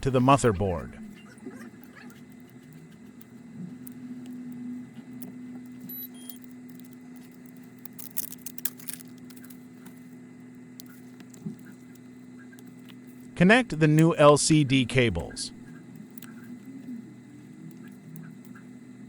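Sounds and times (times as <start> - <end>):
low steady hum: 0.0 - 19.0
small tools clicking and scratching: 1.1 - 13.3, 15.7 - 18.8.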